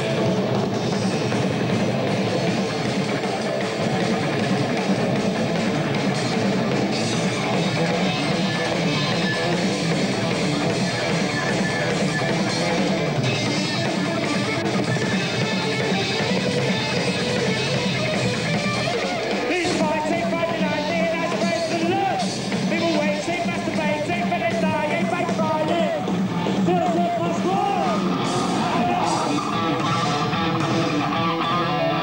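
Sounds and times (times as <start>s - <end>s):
bass guitar: 0.0s - 32.0s
drum kit: 0.0s - 32.0s
electric guitar: 0.0s - 32.0s.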